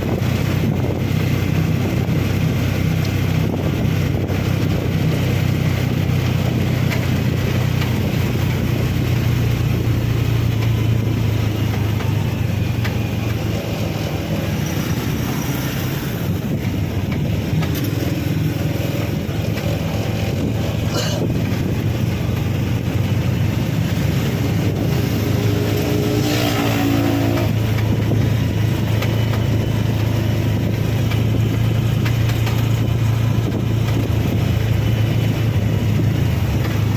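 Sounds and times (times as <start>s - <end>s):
road noise: 0.0s - 36.9s
vehicle engine hum: 0.0s - 36.9s.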